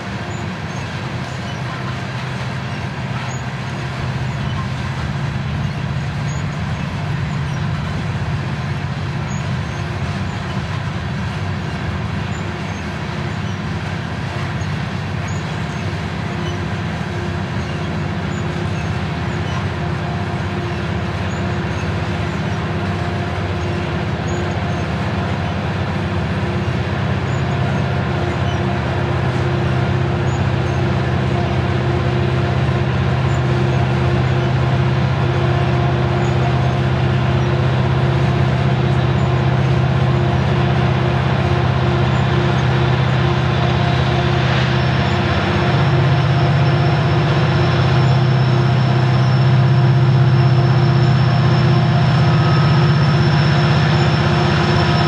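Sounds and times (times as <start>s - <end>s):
steel wheels rumbling on rail: 0.0s - 55.0s
low drone: 2.8s - 55.0s.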